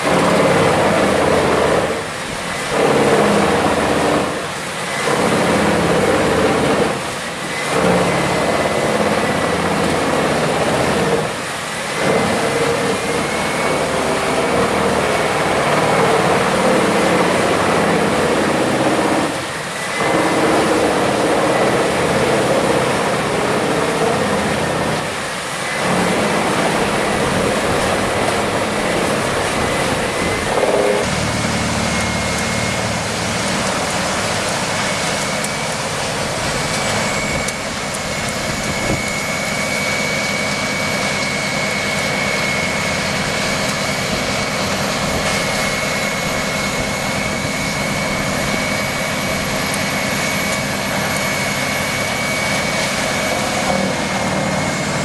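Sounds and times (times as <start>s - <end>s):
heavy machinery running: 0.0s - 55.0s
high-pitched whine: 0.0s - 55.0s.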